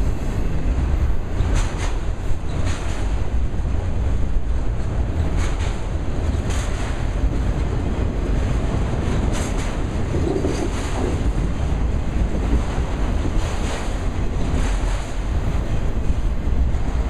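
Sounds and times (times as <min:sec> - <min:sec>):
freight train wheels rumbling: 0:00.0 - 0:17.0
wind buffeting microphone: 0:00.0 - 0:17.0.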